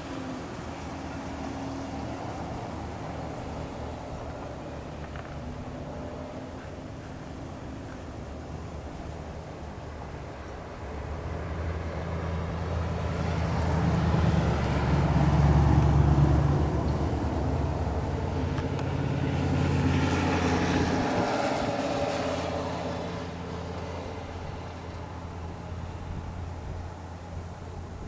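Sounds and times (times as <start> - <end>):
vehicle engine passing: 0.0 - 28.0.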